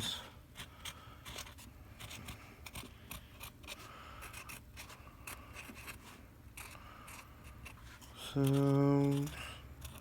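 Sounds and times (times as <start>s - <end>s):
marker pen squeaking and scratching: 1.2s - 10.0s.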